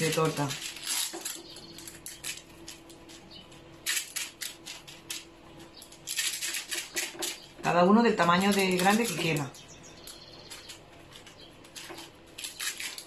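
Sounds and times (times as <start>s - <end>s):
baking paper crinkling: 0.0s - 13.0s.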